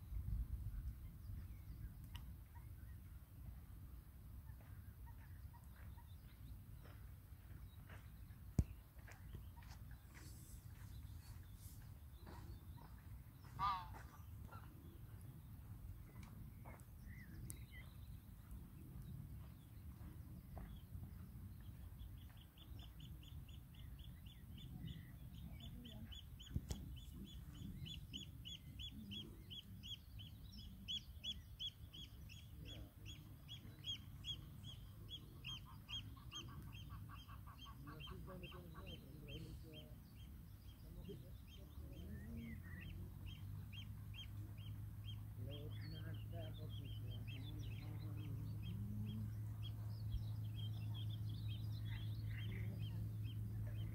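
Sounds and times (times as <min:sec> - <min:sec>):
faint low rumble: 0:00.0 - 0:53.9.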